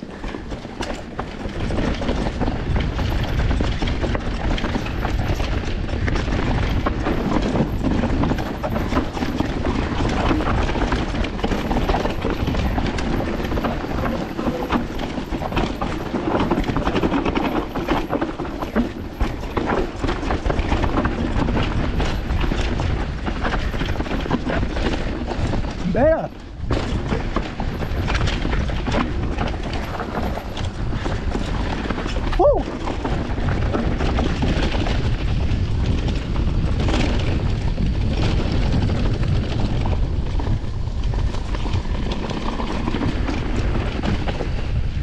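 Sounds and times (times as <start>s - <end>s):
bike rattling and clicking: 0.0s - 45.0s
bike tyre rumble on trail: 0.0s - 45.0s
wind buffeting microphone: 0.0s - 45.0s.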